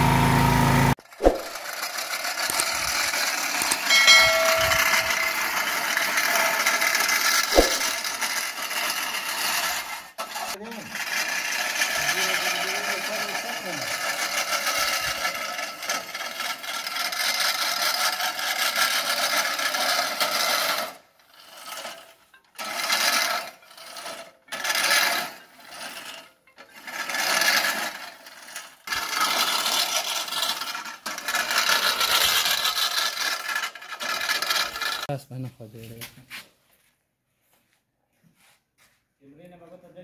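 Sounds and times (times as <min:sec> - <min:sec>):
reel mower blades cutting grass: 0:00.0 - 0:35.1.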